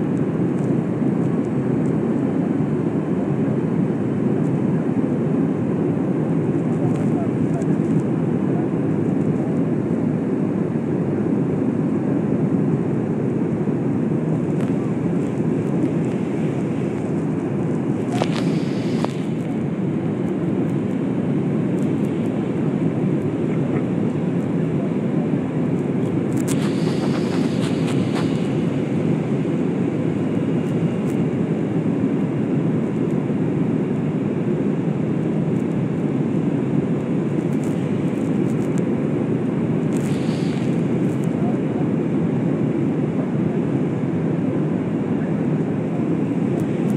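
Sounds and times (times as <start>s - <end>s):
jet airliner cabin noise: 0.0s - 46.9s.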